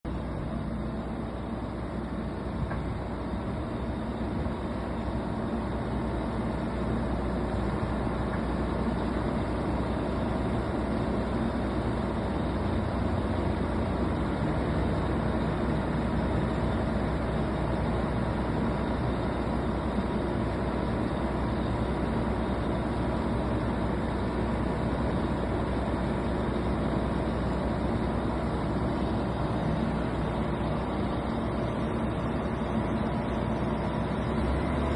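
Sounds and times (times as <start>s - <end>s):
diesel engine drone: 0.0s - 34.9s.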